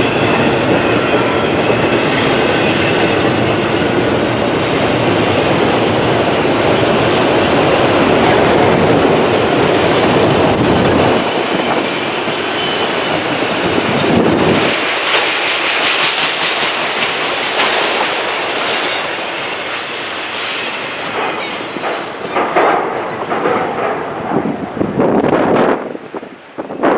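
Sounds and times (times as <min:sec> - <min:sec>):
wind on microphone: 0:00.0 - 0:18.1, 0:21.2 - 0:26.9
train wheels on rails: 0:00.0 - 0:26.9.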